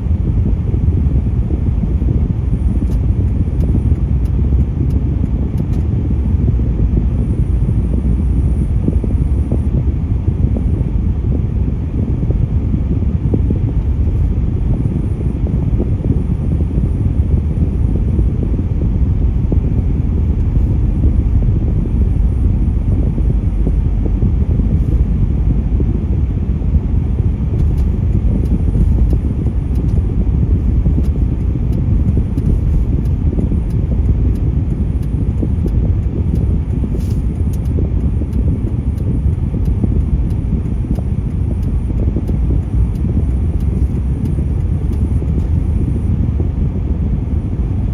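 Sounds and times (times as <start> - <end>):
road traffic rumble: 0.0 - 47.9.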